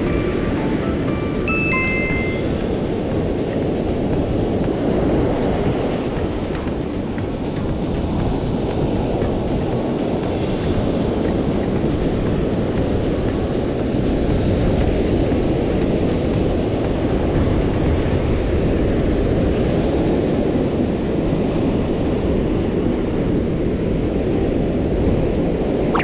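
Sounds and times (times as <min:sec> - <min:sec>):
heavy surf breaking on beach: 0:00.0 - 0:25.8.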